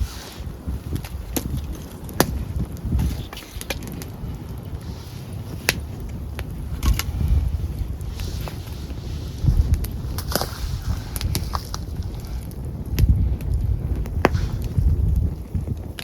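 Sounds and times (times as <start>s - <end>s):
wind rumble on microphone: 0.0s - 16.0s
wood fire crackling and popping: 0.0s - 16.0s.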